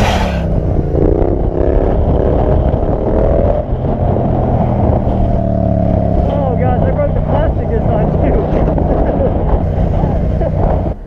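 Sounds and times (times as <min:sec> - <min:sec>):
motorcycle engine revving: 0:00.0 - 0:11.0
wind noise on microphone: 0:00.0 - 0:11.0.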